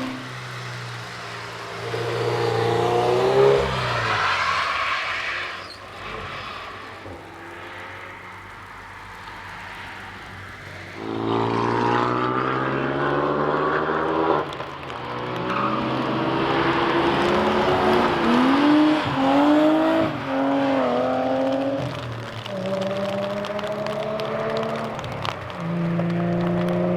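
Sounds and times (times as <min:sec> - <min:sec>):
race car passing at high revs: 0:00.0 - 0:05.3, 0:05.9 - 0:26.9
race car accelerating through gears: 0:00.0 - 0:08.5, 0:10.2 - 0:26.9.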